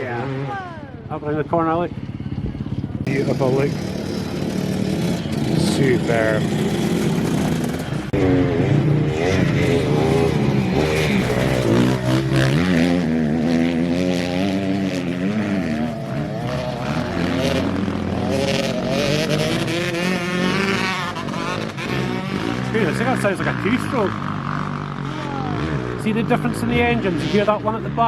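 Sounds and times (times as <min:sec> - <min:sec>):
dirt bikes revving: 0:00.0 - 0:28.0.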